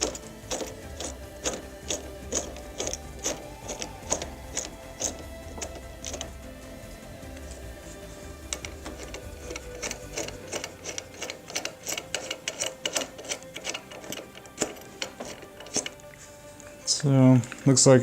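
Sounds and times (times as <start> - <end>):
sharp clicks and ticks: 0.0 - 6.6, 7.2 - 16.2
background music with held tones: 0.0 - 18.0.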